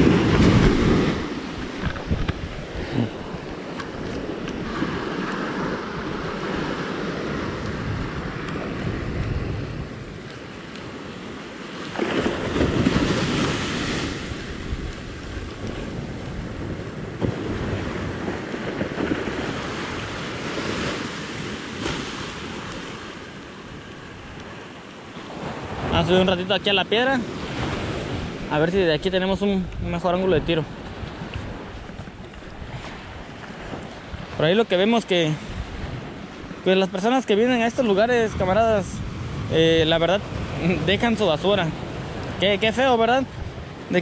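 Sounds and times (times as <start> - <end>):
wind buffeting microphone: 0.0 - 24.6, 27.3 - 44.0
surf washing onto beach: 0.0 - 44.0.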